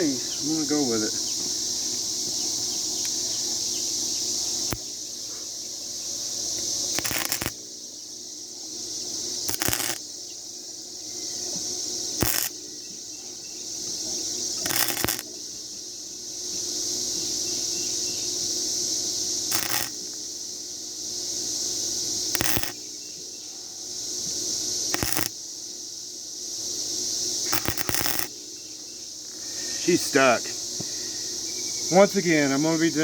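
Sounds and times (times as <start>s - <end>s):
welder bursts: 0.0s - 7.8s, 9.2s - 10.2s, 11.1s - 12.8s, 13.6s - 23.0s, 24.1s - 25.5s, 26.7s - 33.0s.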